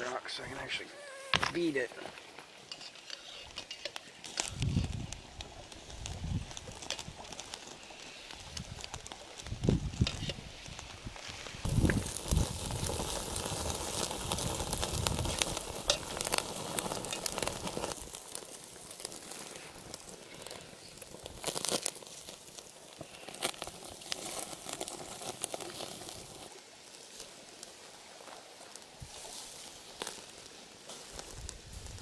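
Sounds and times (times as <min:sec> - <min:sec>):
meat sizzling on grate: 0:01.0 - 0:32.0
wood fire crackling and popping: 0:01.0 - 0:32.0.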